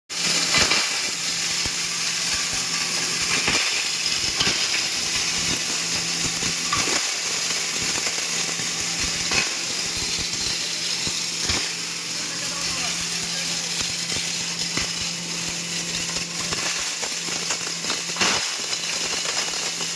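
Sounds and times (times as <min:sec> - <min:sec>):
grinder machine running: 0:00.1 - 0:19.9.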